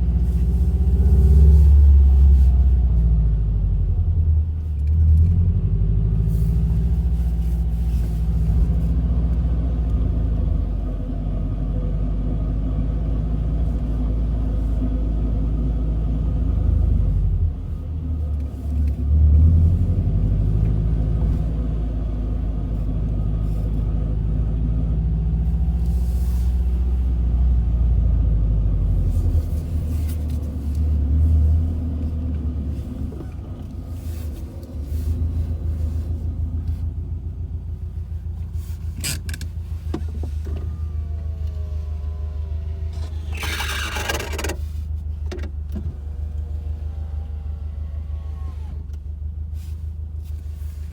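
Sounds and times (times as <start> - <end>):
car engine low rumble: 0.0 - 50.9.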